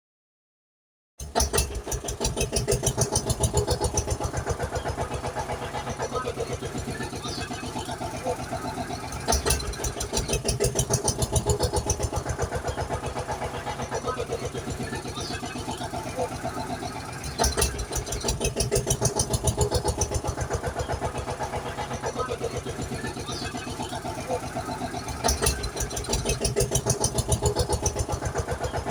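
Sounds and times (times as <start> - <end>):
tractor engine chugging: 1.2 - 28.9.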